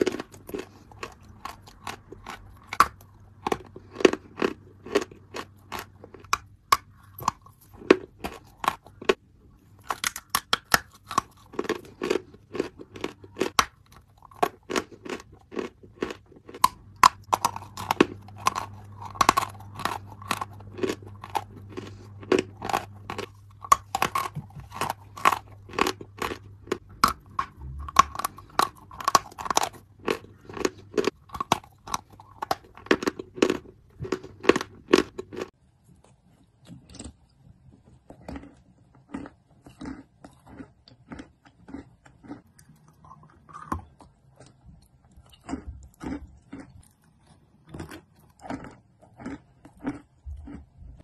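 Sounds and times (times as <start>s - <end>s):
chewing chalk: 0.0s - 51.0s.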